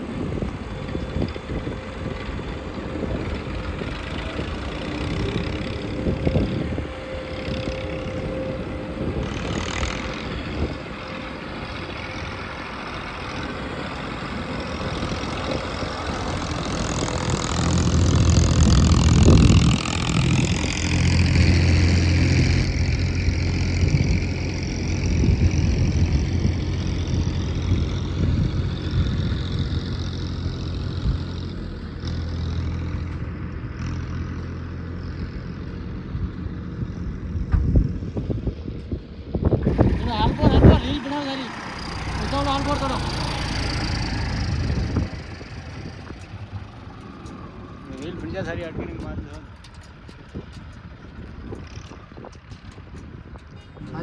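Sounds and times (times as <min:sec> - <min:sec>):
diesel engines of earthmovers: 0:00.0 - 0:54.0
loud engine low hum: 0:00.0 - 0:54.0.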